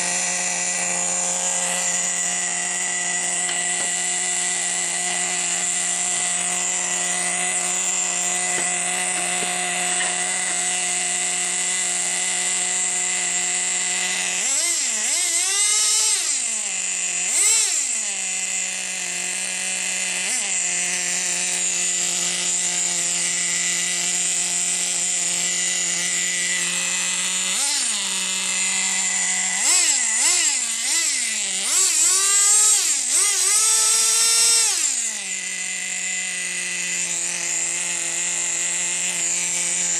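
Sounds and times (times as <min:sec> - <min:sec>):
model engine idling and revving: 0:00.0 - 0:39.9.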